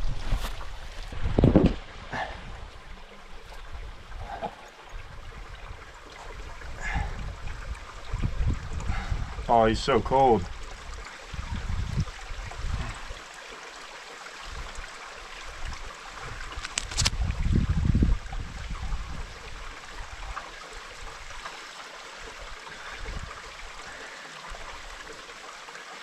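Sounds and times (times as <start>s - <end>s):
mountain stream running: 0.0s - 26.0s.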